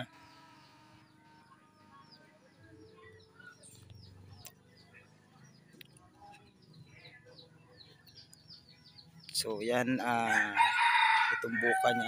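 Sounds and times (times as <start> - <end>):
small bird chirping: 0.0 - 9.7.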